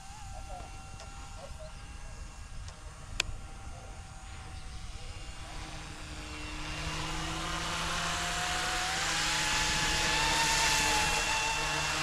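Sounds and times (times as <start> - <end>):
rc helicopter motor whine: 0.0 - 12.0.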